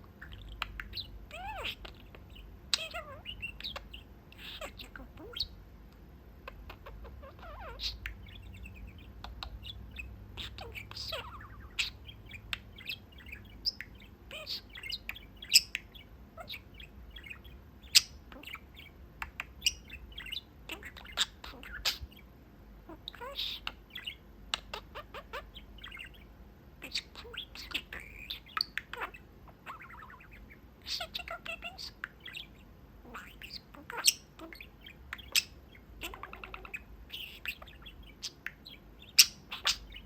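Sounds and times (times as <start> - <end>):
budgerigar chattering and warbling: 0.2 - 5.6, 6.4 - 22.3, 22.9 - 40.0.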